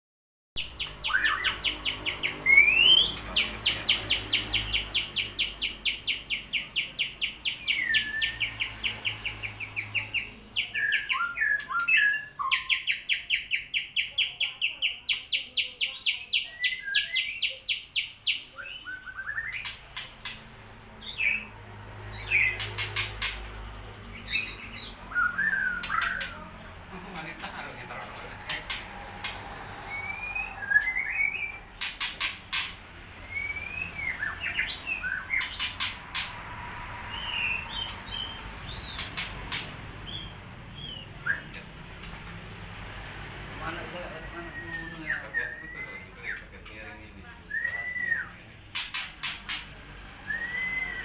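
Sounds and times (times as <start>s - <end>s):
bird singing rapid notes and whistles: 0.6s - 20.4s, 21.0s - 26.5s, 28.6s - 36.4s, 37.0s - 41.6s, 44.0s - 46.7s, 47.4s - 51.0s.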